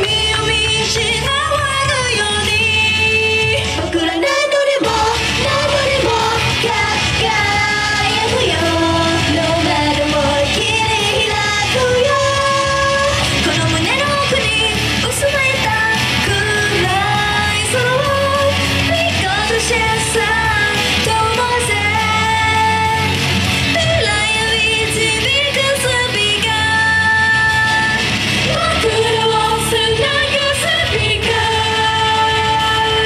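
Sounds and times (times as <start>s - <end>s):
live pop song with singing: 0.0s - 33.0s.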